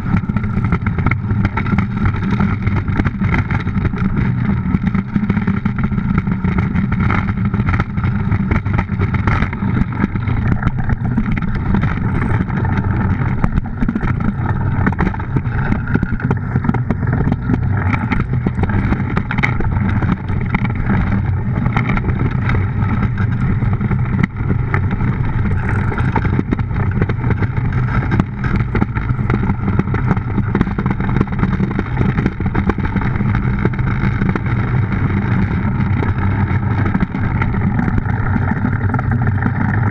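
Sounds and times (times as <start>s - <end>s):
runners rumbling on ice: 0.0s - 39.9s
wind on microphone: 0.0s - 39.9s.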